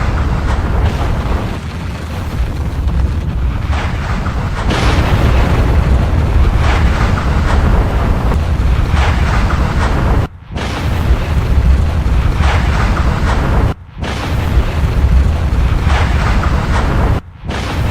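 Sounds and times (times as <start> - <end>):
deep continuous volcanic rumble: 0.0 - 17.9
short eruption blasts: 0.0 - 17.9.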